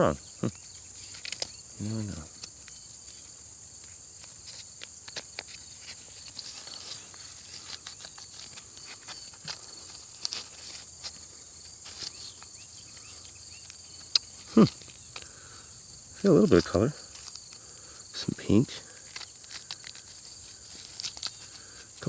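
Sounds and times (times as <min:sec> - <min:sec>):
insects chirring: 0:00.0 - 0:22.0
dry corn husks rustling: 0:00.6 - 0:22.0.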